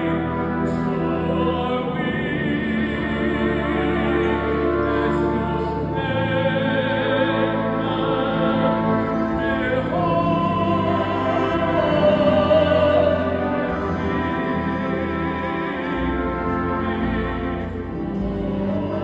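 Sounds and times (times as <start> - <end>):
operatic singing: 0.0 - 19.0.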